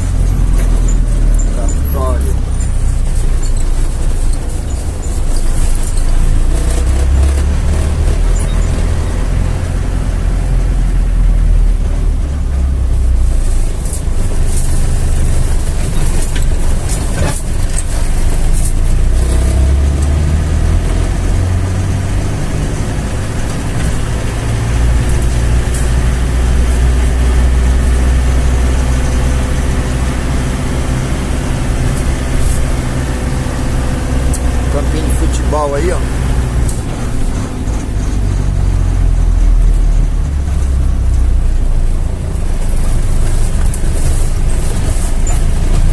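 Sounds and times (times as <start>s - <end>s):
road noise: 0.0s - 45.9s
vehicle engine running at low revs: 0.0s - 45.9s.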